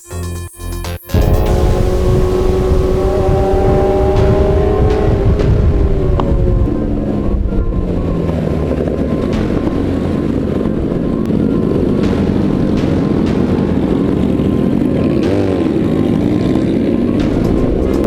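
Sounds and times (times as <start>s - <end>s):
vehicle engines running: 1.1s - 18.0s.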